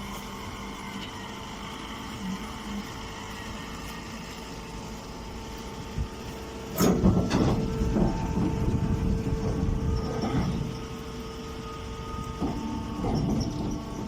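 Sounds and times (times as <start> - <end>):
baling machine humming: 0.0 - 14.0
rough machine rumbling: 0.0 - 14.0.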